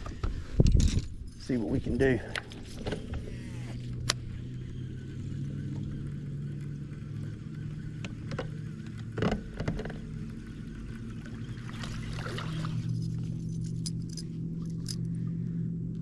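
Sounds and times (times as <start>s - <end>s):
boat motor humming: 1.3s - 16.0s.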